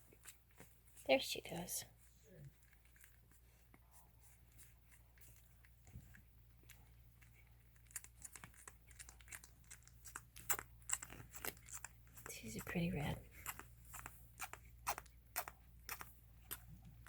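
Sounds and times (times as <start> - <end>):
low room hum: 0.0 - 17.0
puppies suckling wet clicks: 2.5 - 17.0.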